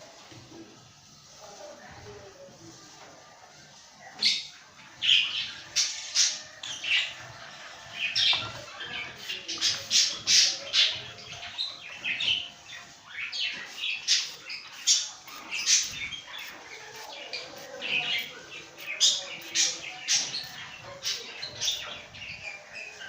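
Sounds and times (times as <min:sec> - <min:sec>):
lovebirds squawking and chirping: 0:04.1 - 0:23.0.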